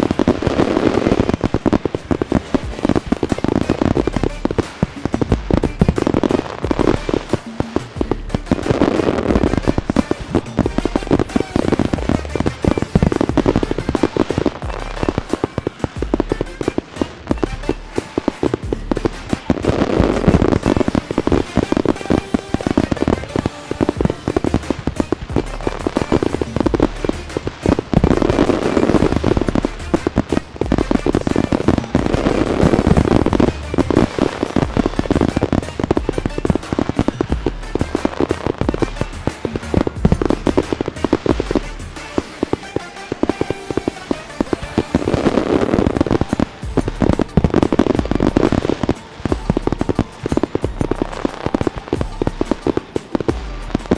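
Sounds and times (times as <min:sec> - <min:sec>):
fireworks bangs and crackles: 0:00.0 - 0:53.9
music playing: 0:00.0 - 0:53.9.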